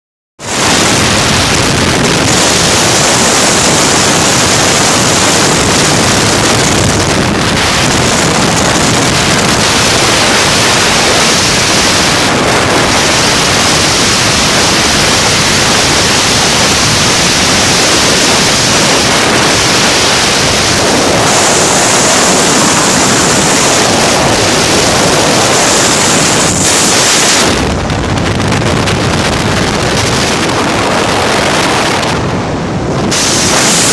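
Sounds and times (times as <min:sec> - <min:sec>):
wind buffeting microphone: 0:00.4 - 0:33.9.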